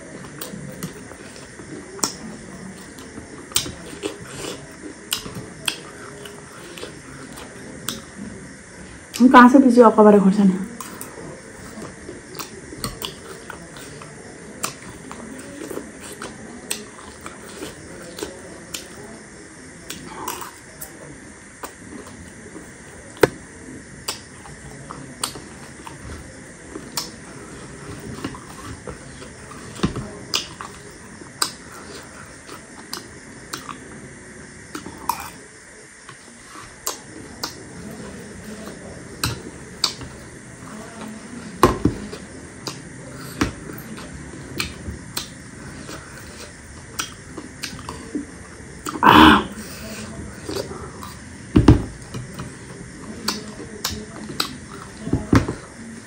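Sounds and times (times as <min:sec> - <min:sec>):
crunchy chewing: 0:00.0 - 0:09.2, 0:10.6 - 0:56.0.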